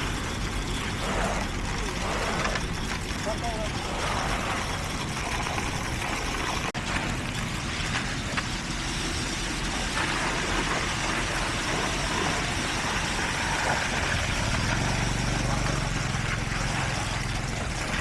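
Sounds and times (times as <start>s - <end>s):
diesel machinery running: 0.0s - 18.0s.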